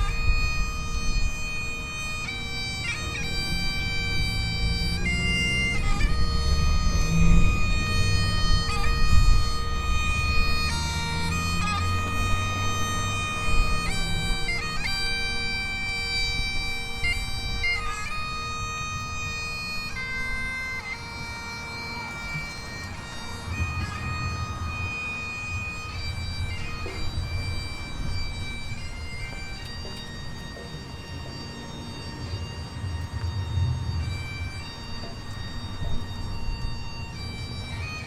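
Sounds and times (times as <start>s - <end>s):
bagpipes playing slow melody: 0.0s - 38.0s.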